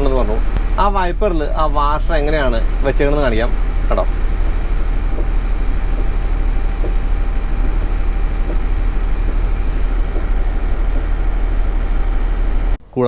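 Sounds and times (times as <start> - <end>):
truck diesel engine idling: 0.0 - 12.8.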